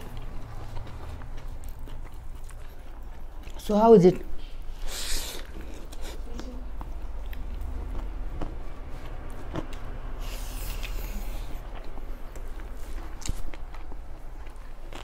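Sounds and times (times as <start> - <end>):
chewing and lip smacks: 0.0 - 15.0.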